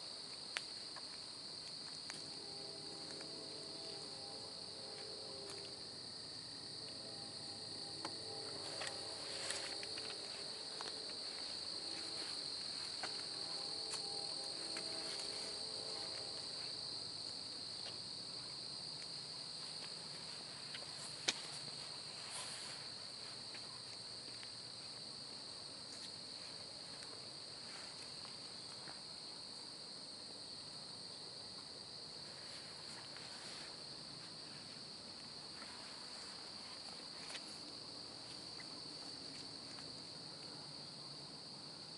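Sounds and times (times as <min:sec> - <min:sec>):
night insects chorus: 0:00.0 - 0:41.9.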